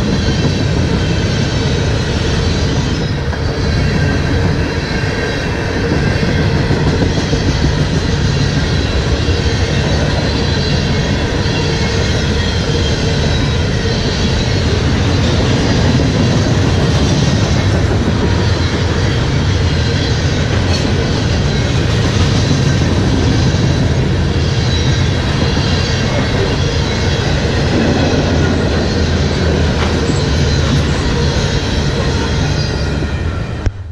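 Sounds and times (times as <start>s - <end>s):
freight train wheels rumbling on rails: 0.0s - 33.9s
high ringing from train wheels: 0.0s - 33.9s.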